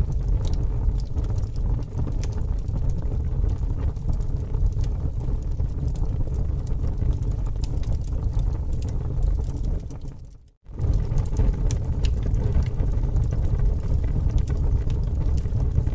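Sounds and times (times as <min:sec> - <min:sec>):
bonfire crackling and popping: 0:00.0 - 0:15.9.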